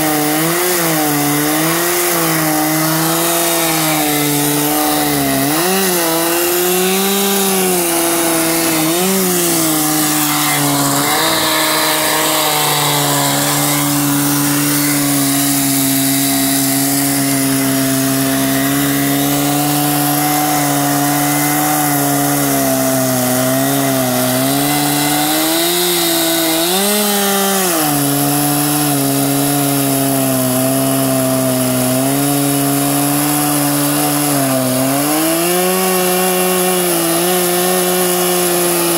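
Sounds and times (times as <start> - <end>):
chainsaw ripping a log: 0.0 - 38.9.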